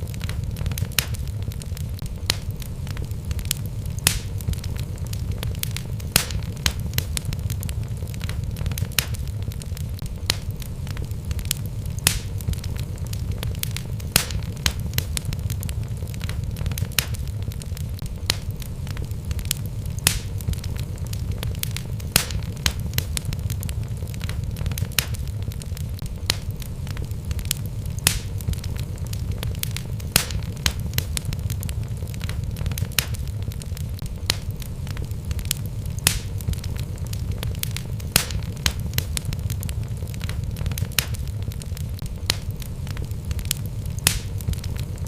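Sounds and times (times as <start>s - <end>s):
crackles and pops of logs: 0.0s - 45.0s
low rumble of flames: 0.0s - 45.0s.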